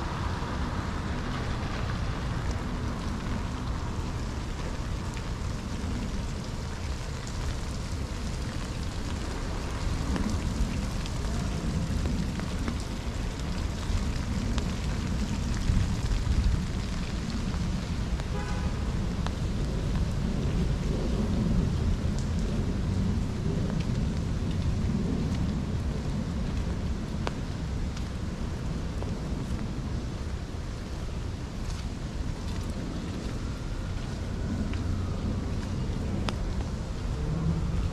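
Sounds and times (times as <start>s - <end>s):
low rumble: 0.0s - 37.9s
steady rain falling: 0.0s - 37.9s.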